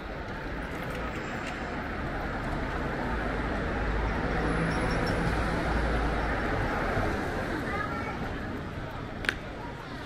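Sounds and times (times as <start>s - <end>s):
city road traffic: 0.0s - 10.0s.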